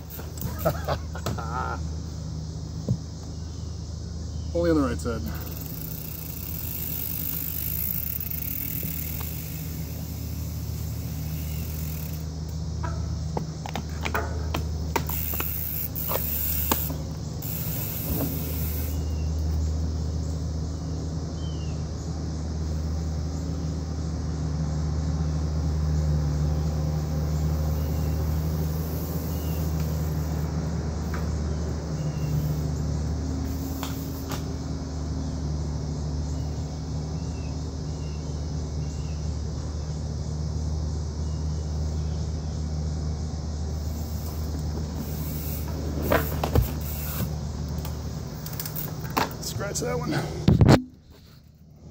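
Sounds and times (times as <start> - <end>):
vehicle engine humming: 0.0 - 51.9.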